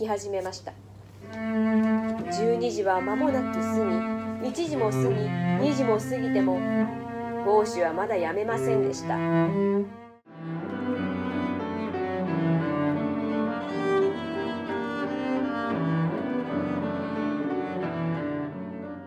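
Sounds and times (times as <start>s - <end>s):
cello bowed: 1.2s - 19.0s
upright piano playing: 1.2s - 19.0s.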